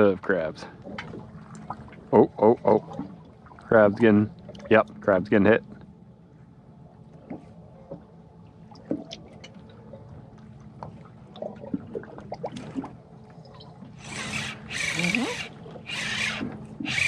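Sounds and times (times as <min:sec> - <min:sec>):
faint low hum: 0:00.0 - 0:17.0
water lapping against boat hull: 0:00.0 - 0:17.0.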